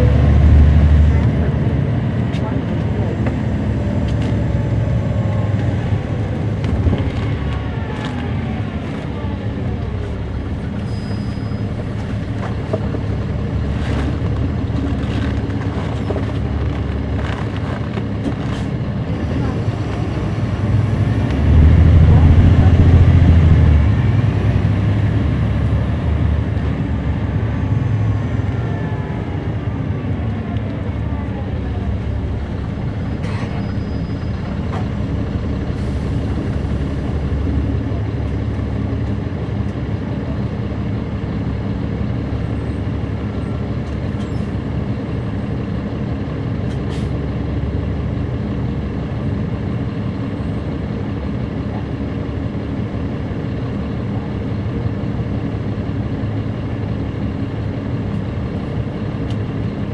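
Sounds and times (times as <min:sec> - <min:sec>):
bus drivetrain whine: 0:00.0 - 0:59.9
diesel engine running: 0:00.0 - 0:59.9.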